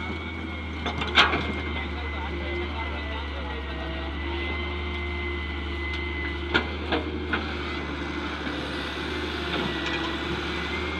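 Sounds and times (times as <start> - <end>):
heavy machinery engine running: 0.0 - 10.9.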